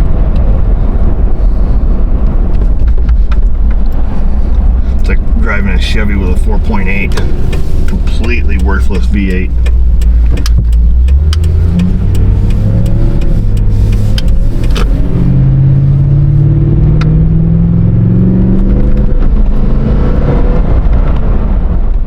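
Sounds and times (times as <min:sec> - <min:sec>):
car engine accelerating: 0:00.0 - 0:22.0
road rumble: 0:00.0 - 0:22.0.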